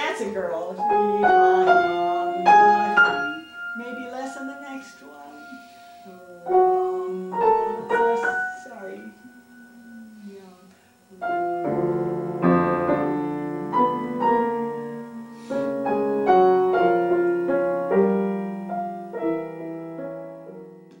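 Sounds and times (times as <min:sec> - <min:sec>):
grand piano playing classical music: 0:00.0 - 0:10.0, 0:11.2 - 0:21.0.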